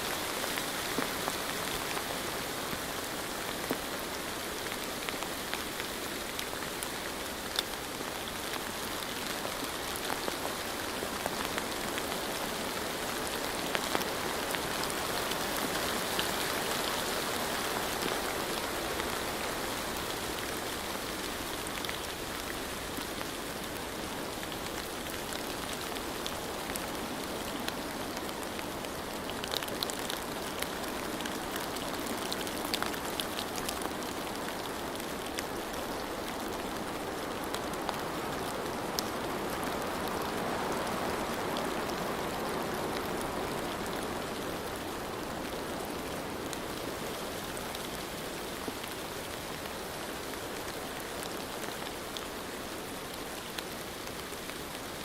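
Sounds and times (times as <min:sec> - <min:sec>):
rain falling: 0:00.0 - 0:55.0
raindrops hitting a surface: 0:00.0 - 0:55.0.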